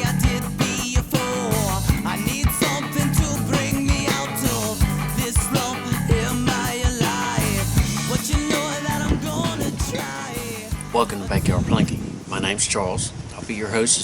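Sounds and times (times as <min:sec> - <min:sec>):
person singing: 0:00.0 - 0:11.8
drum beat: 0:00.0 - 0:11.9
electric guitar: 0:00.0 - 0:12.3.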